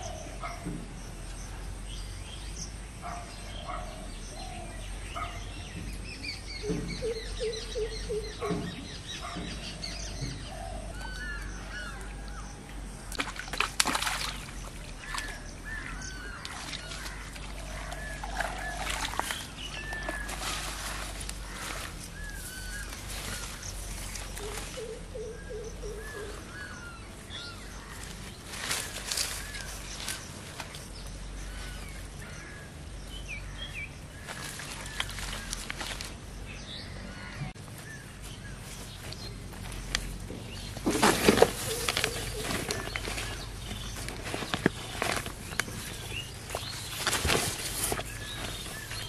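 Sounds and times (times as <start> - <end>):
lower repeated bird calls: 0.0 - 49.0
small birds chirping: 0.0 - 49.0.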